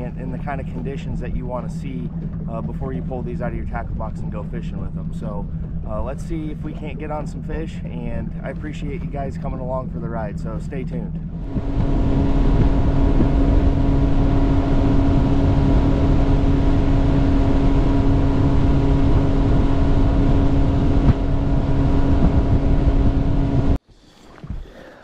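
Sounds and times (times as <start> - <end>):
outboard motor running: 0.0 - 23.8
water rushing: 0.0 - 25.0
wind: 0.0 - 25.0.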